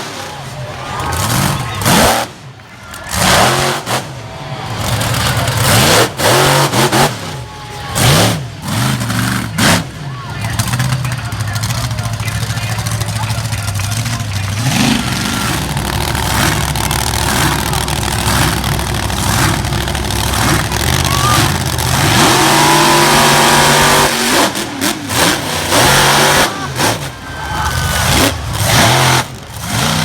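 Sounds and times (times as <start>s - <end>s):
monster truck engine revving: 0.0s - 30.0s
engine throttle blips: 0.9s - 30.0s.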